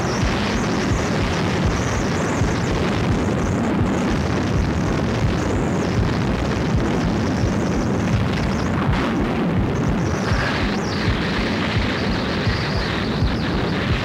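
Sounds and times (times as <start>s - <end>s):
wind buffeting a microphone: 0.0s - 14.0s.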